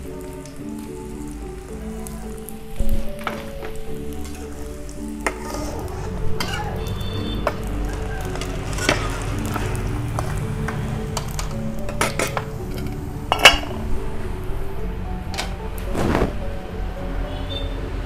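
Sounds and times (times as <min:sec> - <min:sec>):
food deep-frying in hot oil: 0:00.0 - 0:16.2.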